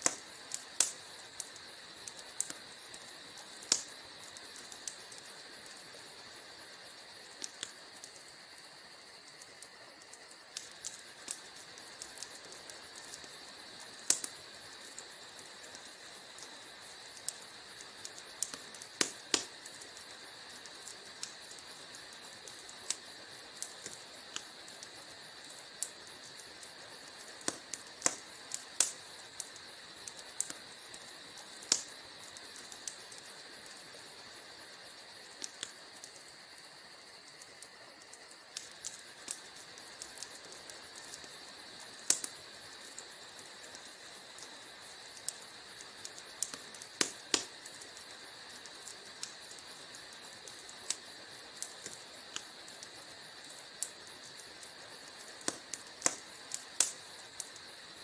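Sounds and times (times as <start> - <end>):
fire hissing: 0.0 - 58.0
fire pops and snaps: 0.0 - 58.0.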